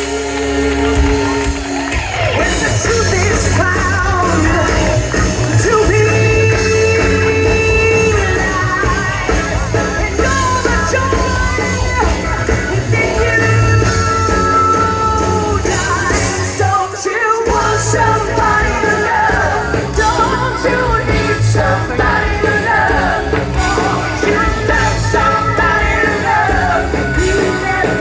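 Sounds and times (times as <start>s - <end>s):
live rock band playing: 0.0s - 28.0s
person singing: 2.3s - 28.0s.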